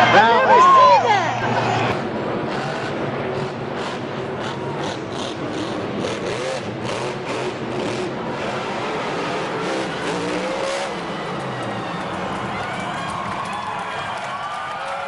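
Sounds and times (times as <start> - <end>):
truck engine revving high: 1.3 - 14.2.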